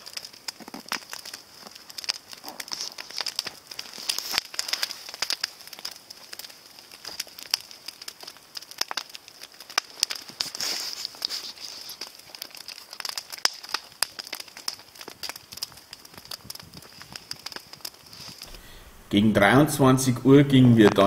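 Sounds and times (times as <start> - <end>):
fire hissing: 0.0 - 20.0
campfire crackling and popping: 0.0 - 21.0.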